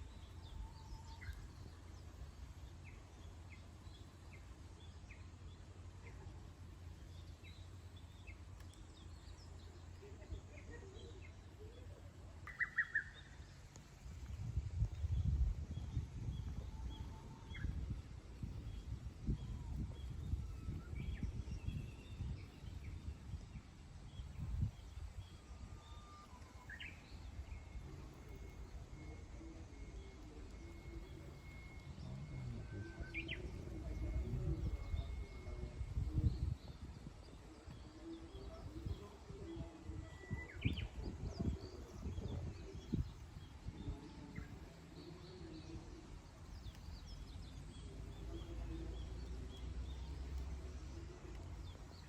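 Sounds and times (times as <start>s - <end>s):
low uneven rumble: 0.0s - 52.0s
songbirds chirping: 0.0s - 52.0s.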